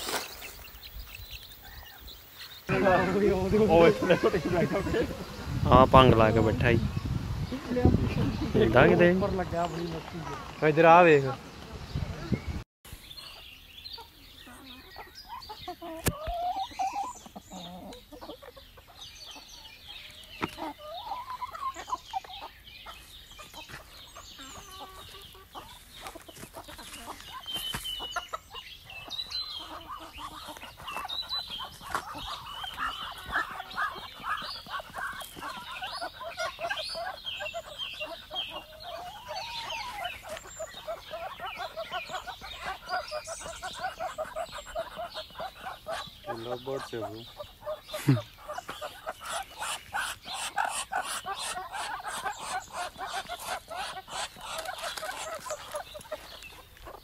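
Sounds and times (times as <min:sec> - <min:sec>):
birds chirping: 0:00.0 - 0:57.0
chickens clucking: 0:00.0 - 0:57.0.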